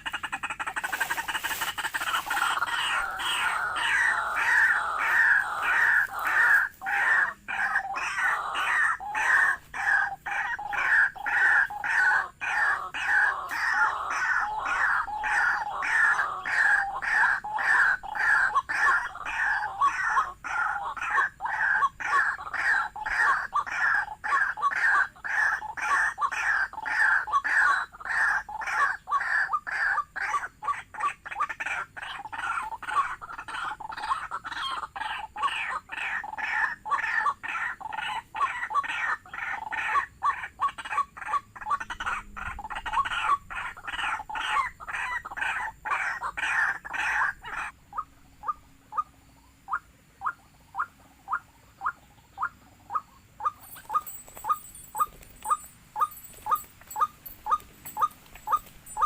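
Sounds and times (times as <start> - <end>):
waterhen calls: 0.0 - 59.0.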